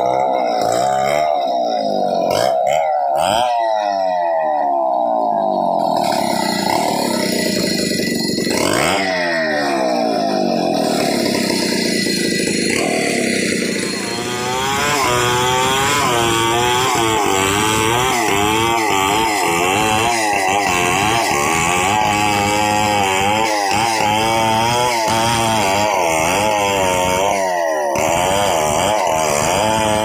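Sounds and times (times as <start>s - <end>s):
chainsaw ripping a log: 0.0s - 30.0s.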